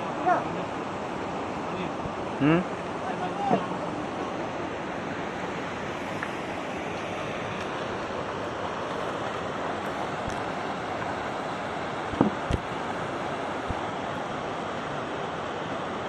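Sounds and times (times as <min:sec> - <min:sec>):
river water over rocks: 0:00.0 - 0:16.0.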